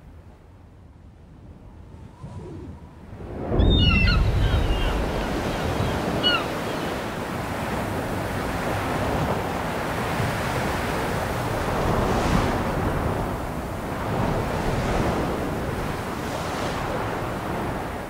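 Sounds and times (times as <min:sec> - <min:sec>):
sea surf and waves: 0:00.0 - 0:18.0
wind: 0:00.0 - 0:18.0.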